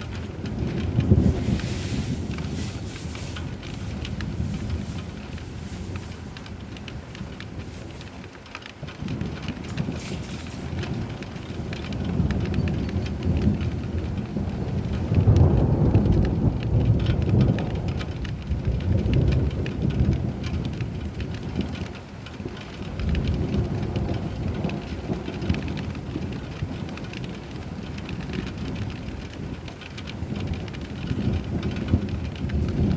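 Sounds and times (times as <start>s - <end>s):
rain pattering on a surface: 0.0s - 32.9s
rolling thunder rumbling: 0.0s - 32.9s.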